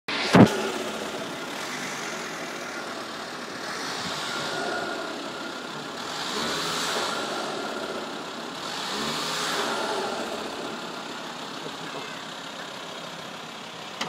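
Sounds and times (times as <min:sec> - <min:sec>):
diesel engine idling: 0:00.1 - 0:14.0.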